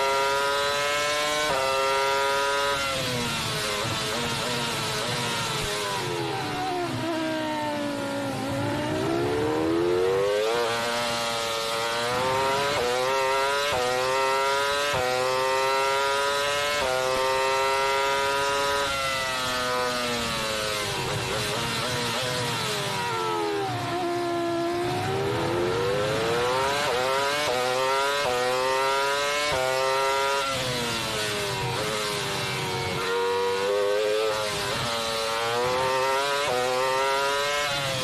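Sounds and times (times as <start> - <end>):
racing car engine with upshifts: 0.0 - 38.0.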